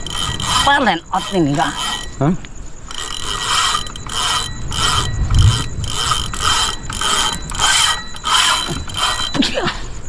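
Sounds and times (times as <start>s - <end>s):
fishing reel drag clicking and whirring: 0.0s - 2.2s, 2.8s - 9.4s.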